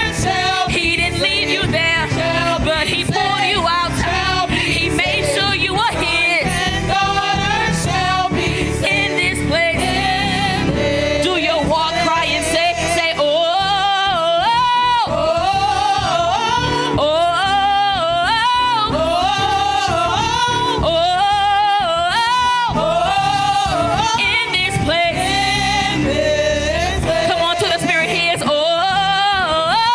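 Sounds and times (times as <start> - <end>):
instrumental accompaniment: 0.0 - 29.9.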